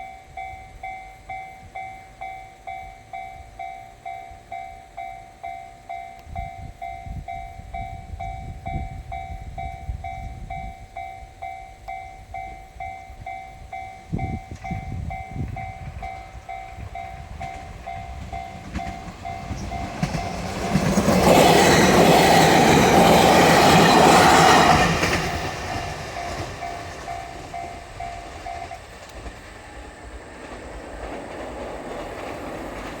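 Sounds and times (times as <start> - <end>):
level crossing alarm ringing: 0.0 - 28.9
electric train passing at speed: 0.0 - 33.0.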